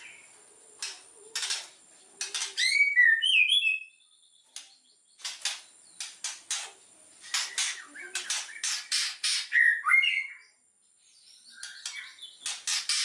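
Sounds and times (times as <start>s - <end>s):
bird singing: 0.0s - 13.0s.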